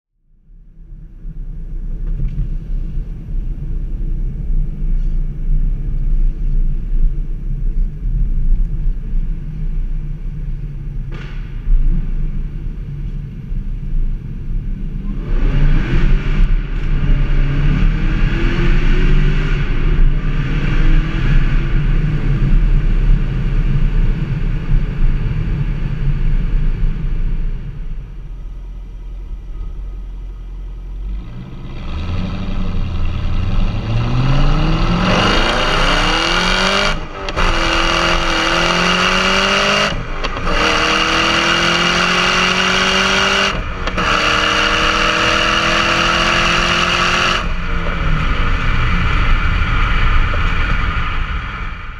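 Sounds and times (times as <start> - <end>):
car engine rumbling and revving: 0.2 - 51.9.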